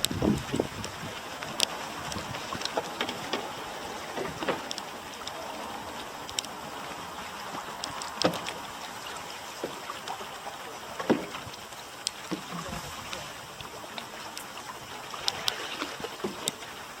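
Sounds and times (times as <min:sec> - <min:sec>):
paddle strokes in water: 0:00.0 - 0:17.0
small splashes and drips: 0:00.0 - 0:17.0.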